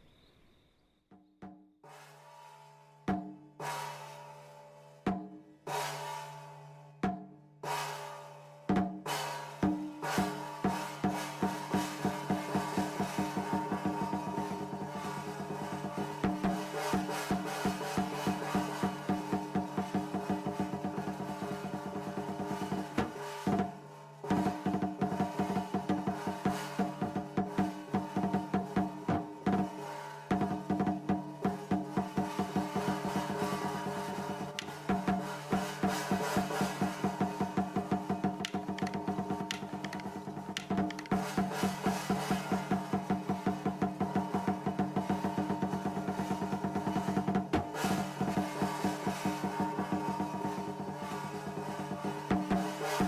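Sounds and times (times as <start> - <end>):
gong-like percussion strokes: 7.6 - 53.0.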